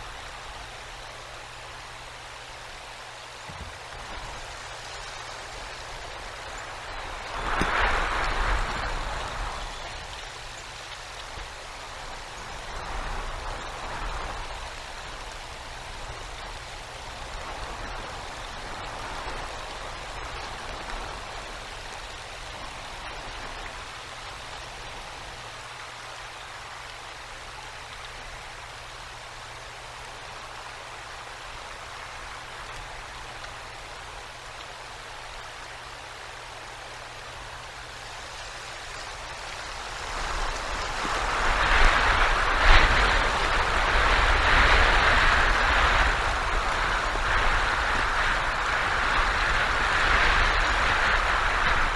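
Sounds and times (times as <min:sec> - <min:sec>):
wind-driven icy rain and snow: 0:00.0 - 0:51.9.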